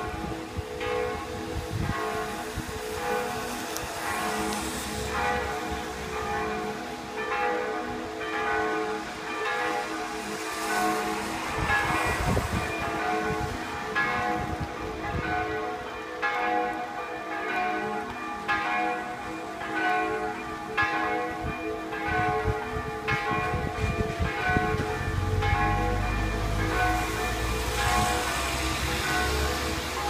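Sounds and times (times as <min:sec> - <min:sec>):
church bells ringing: 0:00.0 - 0:30.0.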